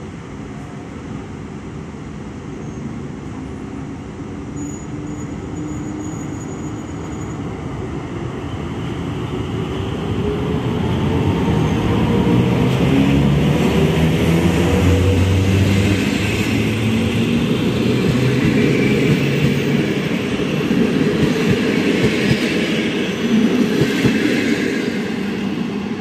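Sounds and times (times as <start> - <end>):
electric locomotive passing: 0.1 - 26.0.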